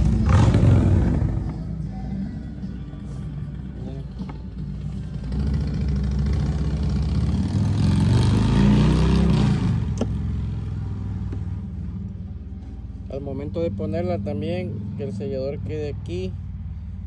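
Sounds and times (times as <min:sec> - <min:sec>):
vehicle engine running: 0:00.0 - 0:08.9, 0:09.5 - 0:17.0.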